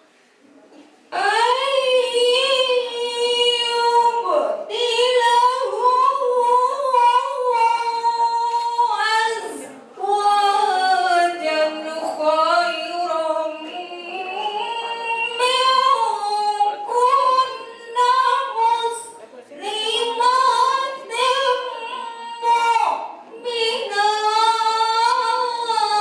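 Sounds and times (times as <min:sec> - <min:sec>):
woman chanting into microphone: 0:01.1 - 0:26.0.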